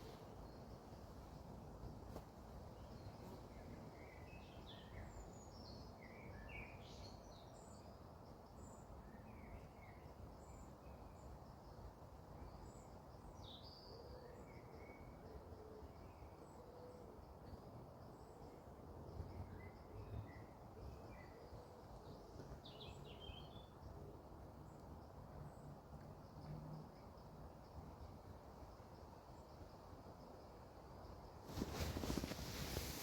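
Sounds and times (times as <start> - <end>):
faint birdsong: 0.0 - 33.0.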